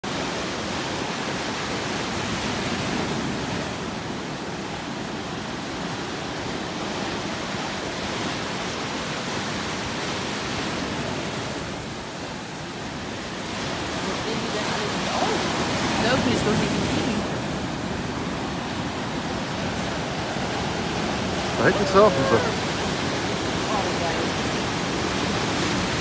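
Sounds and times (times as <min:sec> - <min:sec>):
waves crashing: 0:00.0 - 0:26.0.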